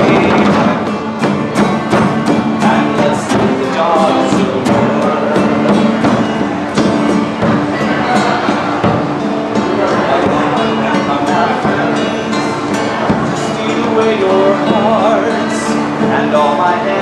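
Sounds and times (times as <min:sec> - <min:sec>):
acoustic guitars strumming: 0:00.0 - 0:17.0
percussion steady beat: 0:00.0 - 0:17.0.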